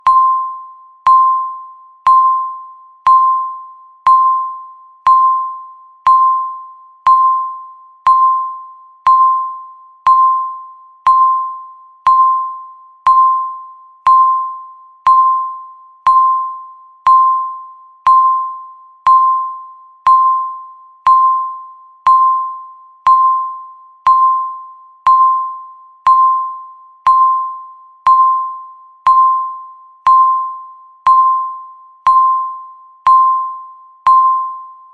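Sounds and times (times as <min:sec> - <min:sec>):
countdown timer beep: 0:00.0 - 0:34.9.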